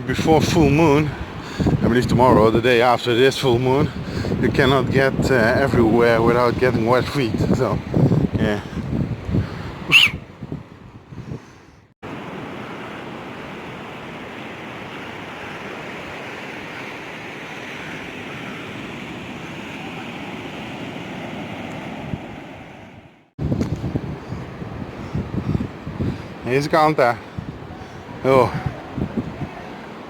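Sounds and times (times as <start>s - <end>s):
sea surf rushing: 0.0s - 10.5s, 12.0s - 30.0s.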